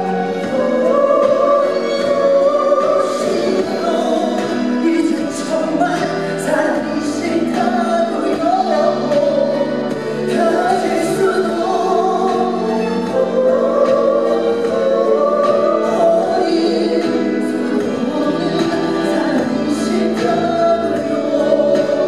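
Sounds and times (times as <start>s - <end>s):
man singing into microphone: 0.0s - 22.0s
musical accompaniment: 0.0s - 22.0s.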